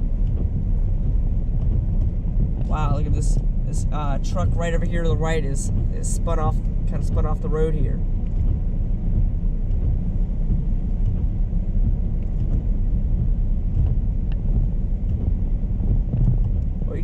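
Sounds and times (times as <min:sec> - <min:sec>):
car interior engine and road noise: 0:00.0 - 0:17.0.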